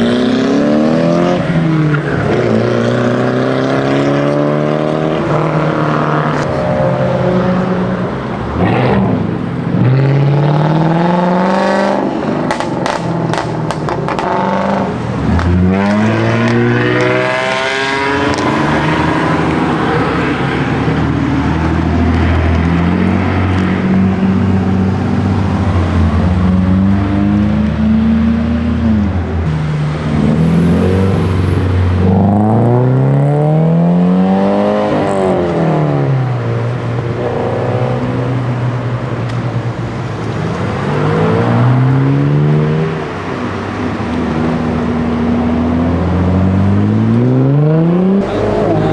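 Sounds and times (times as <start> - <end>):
car engines revving: 0.0 - 48.9.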